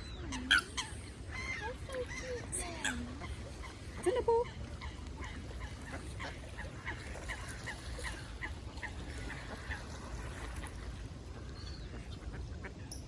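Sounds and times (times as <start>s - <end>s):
waterfowl calling: 0.0s - 10.6s.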